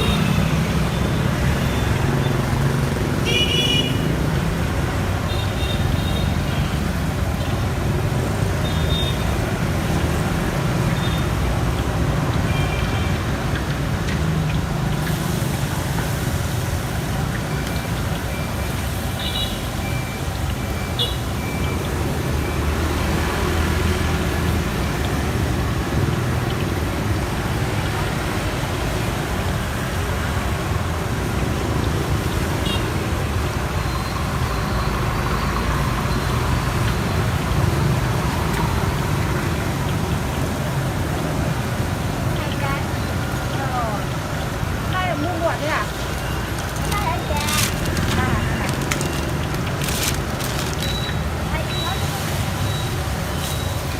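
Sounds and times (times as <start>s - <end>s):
street traffic noise: 0.0s - 53.9s.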